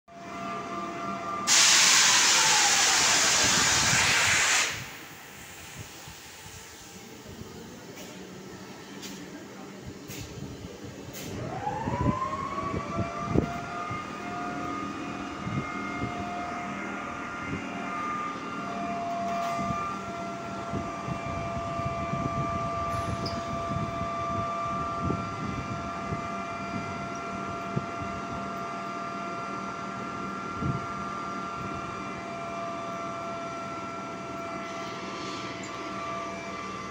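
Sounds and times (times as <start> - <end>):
locomotive machine whine and hum: 0.1 - 36.9.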